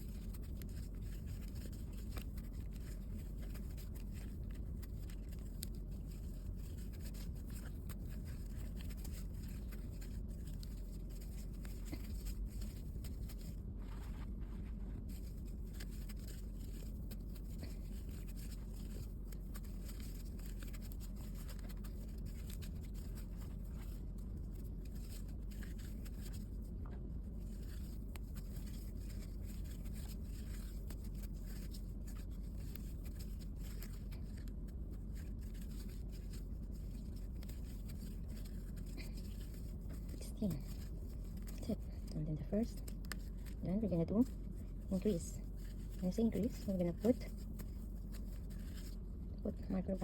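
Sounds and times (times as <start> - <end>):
crochet hook scraping yarn: 0.0 - 26.4, 27.4 - 50.0
steady low hum: 0.0 - 50.0.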